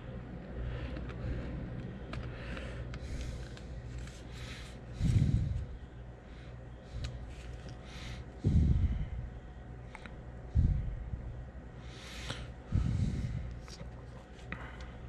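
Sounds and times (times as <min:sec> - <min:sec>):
muffled puffs of breath: 0:00.0 - 0:15.0.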